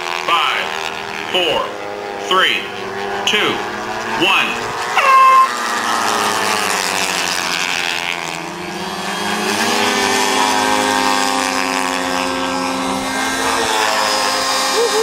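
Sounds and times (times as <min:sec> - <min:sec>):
model aircraft engines droning: 0:00.0 - 0:15.0.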